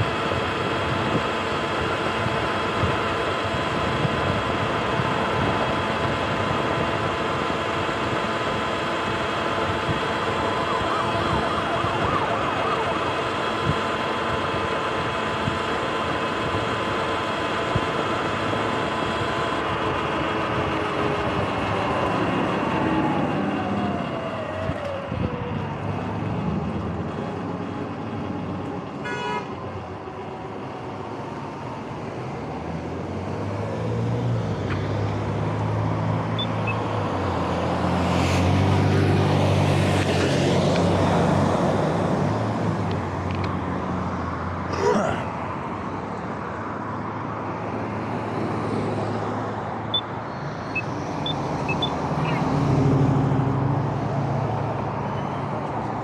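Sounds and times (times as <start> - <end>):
truck diesel engine rumbling: 0.0 - 56.0.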